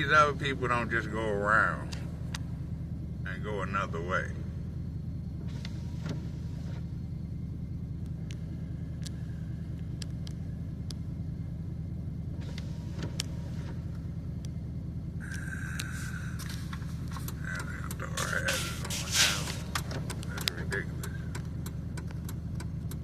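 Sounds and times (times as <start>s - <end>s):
truck engine humming: 0.0s - 23.0s.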